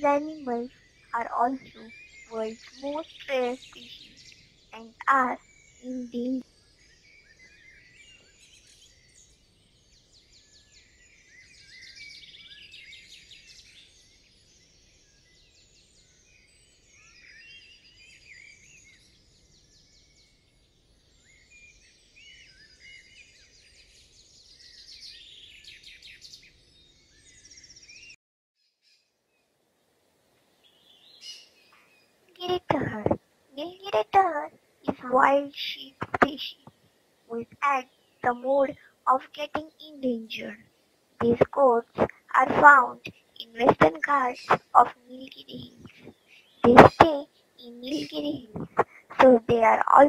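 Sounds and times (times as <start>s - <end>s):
forest birds chirping and trilling: 0.0s - 50.0s.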